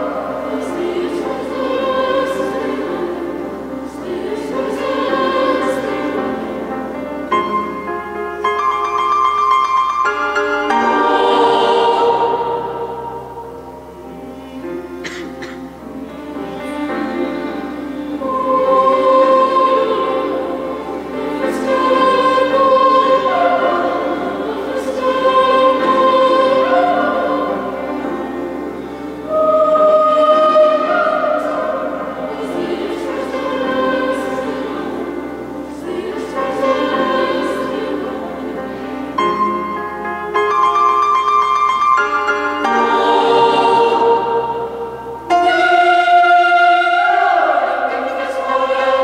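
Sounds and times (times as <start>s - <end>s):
boys' choir singing: 0.0s - 8.1s, 8.8s - 39.8s, 42.0s - 49.0s.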